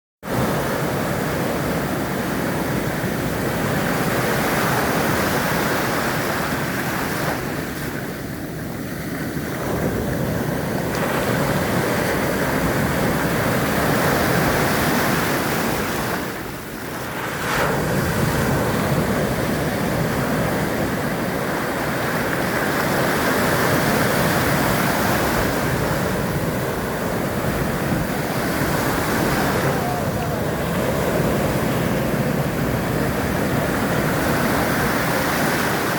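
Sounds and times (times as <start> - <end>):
ocean waves breaking: 0.3 - 35.9.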